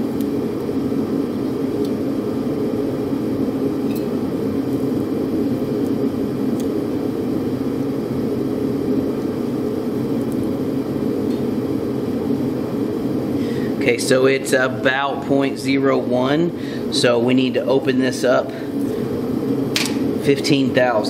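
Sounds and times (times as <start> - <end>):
fan whirring: 0.0 - 21.0.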